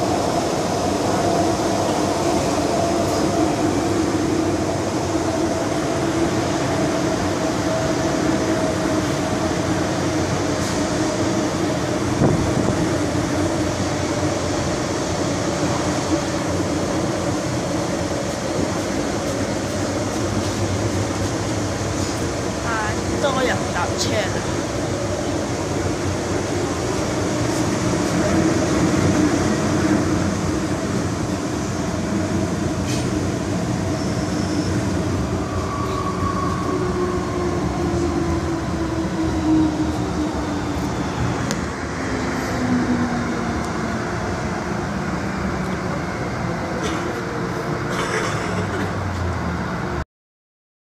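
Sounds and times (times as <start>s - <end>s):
train rumble and wheel noise: 0.0s - 50.0s.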